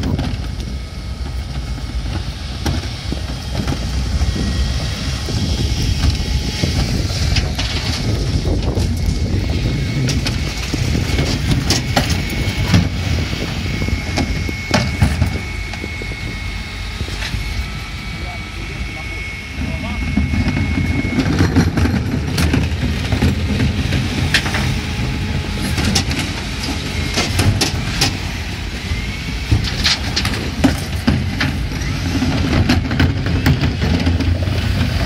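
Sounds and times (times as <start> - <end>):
bin wheels rumbling on pavement: 0.0 - 35.0
refuse truck running: 0.0 - 35.0.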